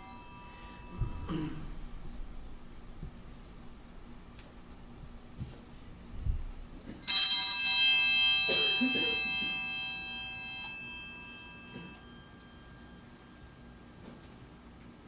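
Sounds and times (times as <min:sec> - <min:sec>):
altar bell ringing: 0:00.0 - 0:05.3, 0:06.6 - 0:14.0.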